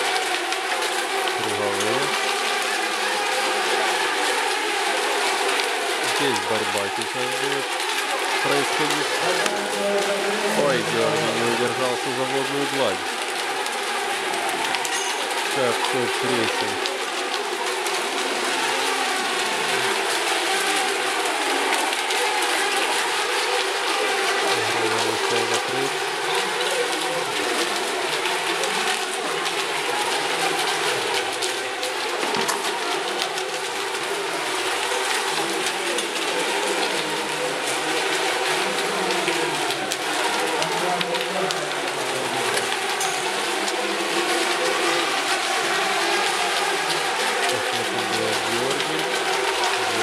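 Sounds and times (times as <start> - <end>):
electric toy boats whining: 0.0 - 40.8.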